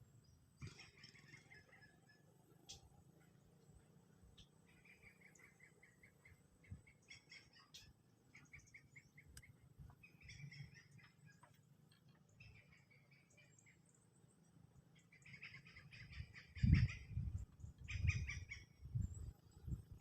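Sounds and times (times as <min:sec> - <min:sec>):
faint rapid chirping animal calls: 0:00.6 - 0:03.3, 0:04.3 - 0:11.5, 0:12.3 - 0:19.0.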